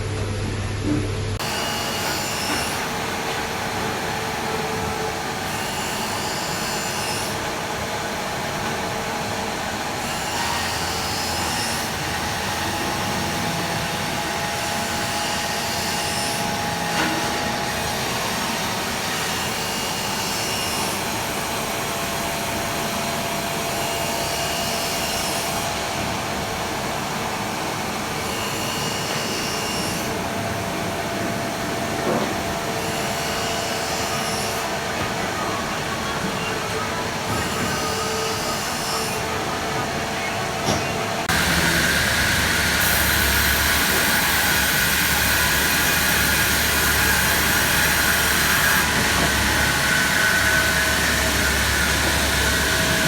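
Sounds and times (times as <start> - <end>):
sawmill machinery running: 1.4 - 53.0.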